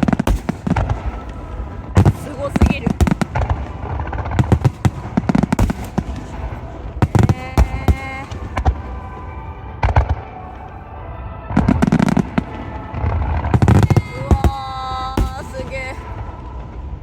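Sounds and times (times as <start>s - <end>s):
fireworks cracking: 0.0s - 10.8s, 11.6s - 17.0s
deep fireworks booms: 0.0s - 17.0s.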